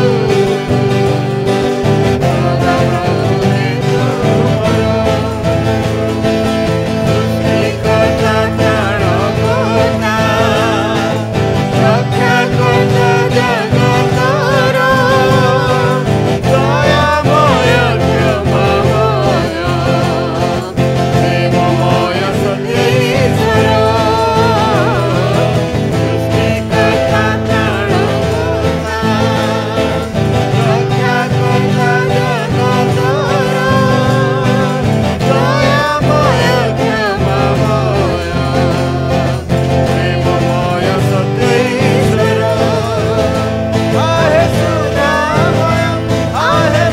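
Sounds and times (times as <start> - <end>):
man and woman singing: 0.0 - 46.9
strummed acoustic guitar: 0.0 - 46.9.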